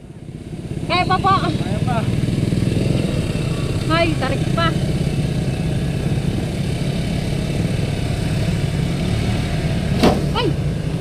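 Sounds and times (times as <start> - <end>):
motorcycle engine labouring: 0.0 - 11.0.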